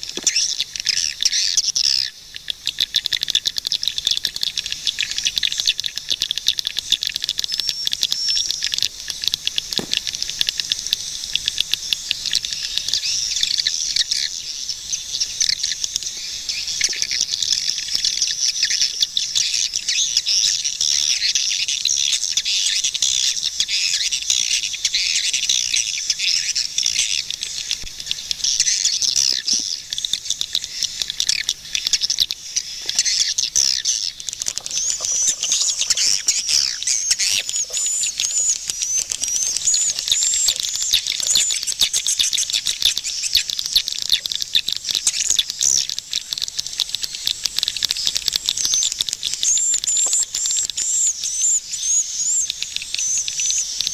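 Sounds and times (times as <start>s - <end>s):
flock of birds chirping: 0.0s - 53.9s
sharp bird clicks: 0.0s - 53.9s.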